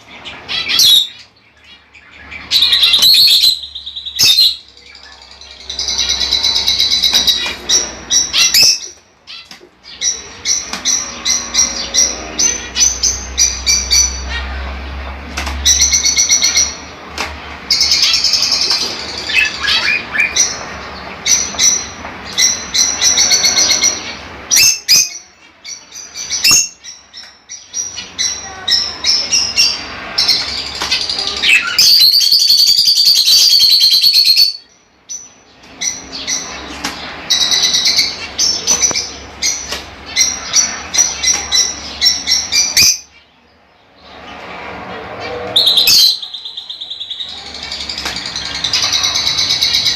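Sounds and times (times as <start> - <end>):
budgerigars chattering and warbling: 0.0 - 43.3, 44.0 - 49.9.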